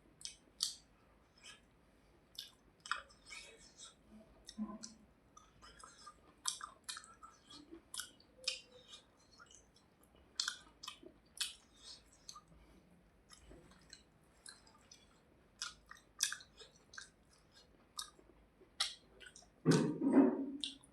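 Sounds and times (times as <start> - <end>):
lip smacks: 0.2 - 0.8, 2.3 - 5.0, 5.6 - 12.5, 13.3 - 20.0, 20.6 - 20.9
wet chewing: 0.2 - 0.8, 1.4 - 1.7, 2.3 - 20.9.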